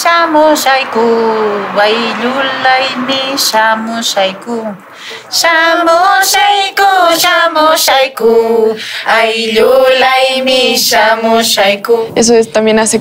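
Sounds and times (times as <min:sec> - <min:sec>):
woman singing folk song: 0:00.0 - 0:13.0.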